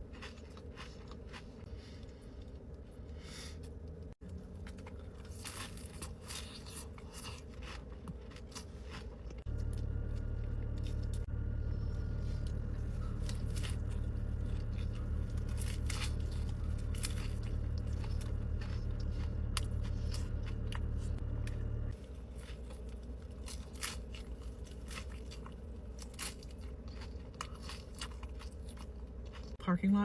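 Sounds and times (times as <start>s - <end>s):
chewing taco with crunches: 0.0s - 29.6s
steady low hum: 0.0s - 30.0s.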